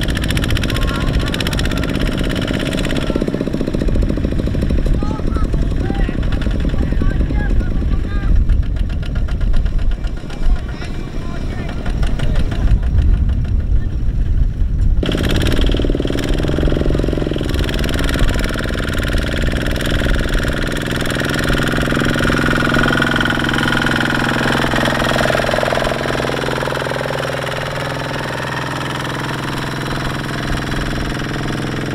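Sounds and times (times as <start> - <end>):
diesel engine running under load: 0.0 - 31.9.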